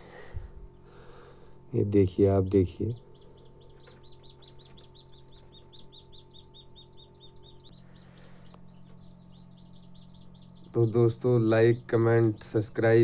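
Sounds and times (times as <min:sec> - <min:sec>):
low electrical hum: 0:00.0 - 0:13.0
small bird chirping: 0:00.7 - 0:13.0.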